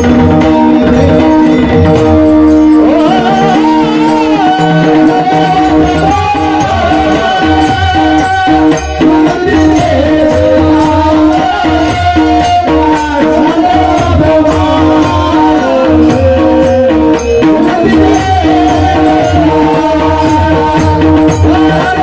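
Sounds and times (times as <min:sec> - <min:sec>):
percussion strikes: 0:00.0 - 0:22.0.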